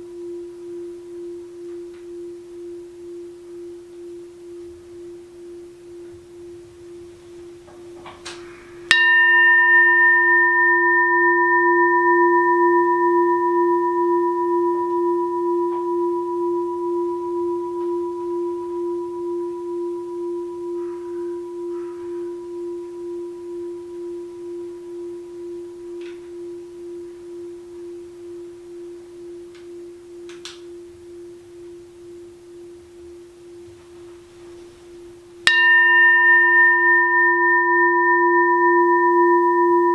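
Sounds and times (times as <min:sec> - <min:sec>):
bowl bell ringing: 0:00.0 - 0:39.9.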